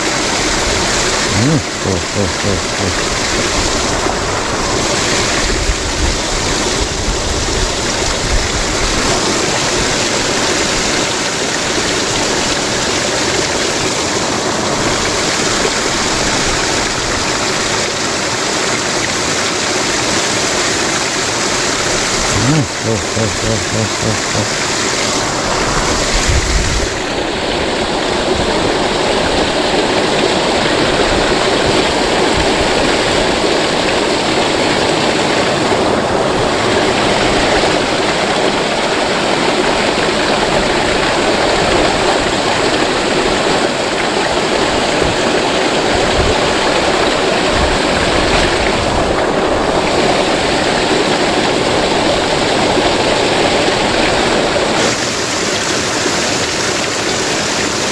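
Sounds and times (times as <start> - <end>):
flowing river water: 0.0 - 57.9.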